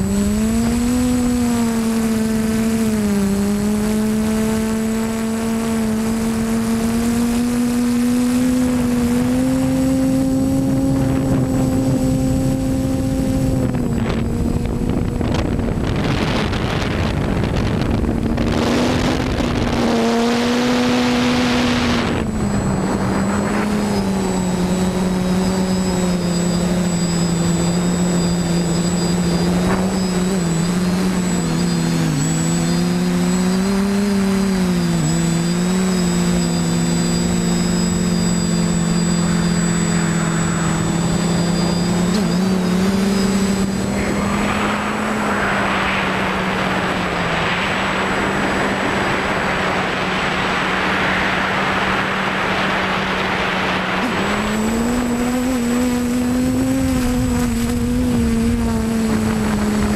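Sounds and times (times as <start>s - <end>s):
drone propellers whining: 0.0s - 59.9s
wind noise: 0.0s - 59.9s.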